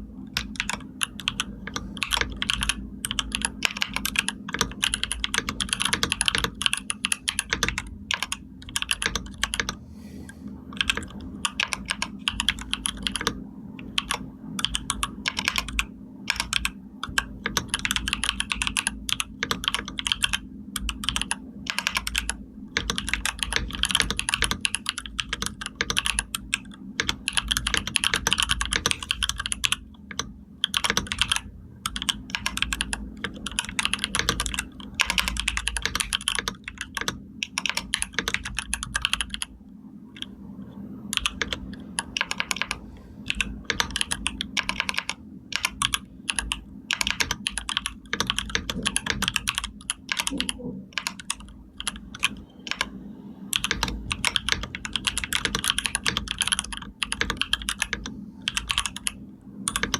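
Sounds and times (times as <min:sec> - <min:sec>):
keyboard typing: 0:00.0 - 0:09.8, 0:10.7 - 0:39.6, 0:40.2 - 0:59.9.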